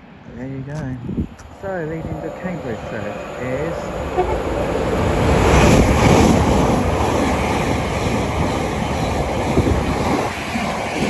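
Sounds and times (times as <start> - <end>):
wind buffeting microphone: 0.2 - 11.0
train rushing past: 1.2 - 11.0.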